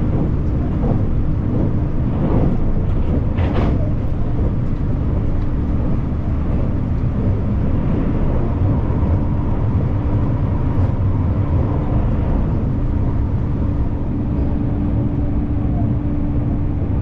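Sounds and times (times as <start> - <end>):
low hum: 0.0 - 17.0
train running rumble: 0.0 - 17.0.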